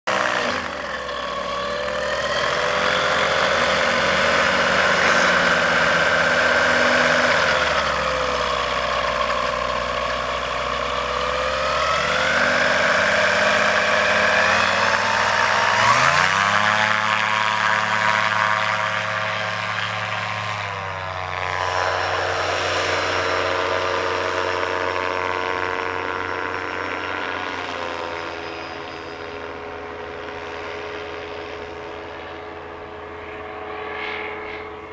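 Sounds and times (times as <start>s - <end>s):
engine driving propeller: 0.0s - 34.9s.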